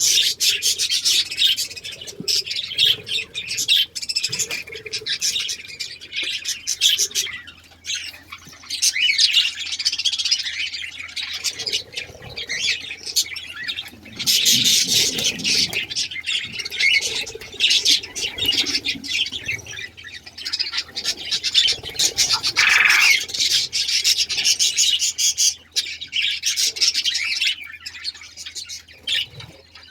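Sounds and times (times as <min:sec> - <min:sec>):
cage birds chirping and squawking: 0:00.0 - 0:29.9.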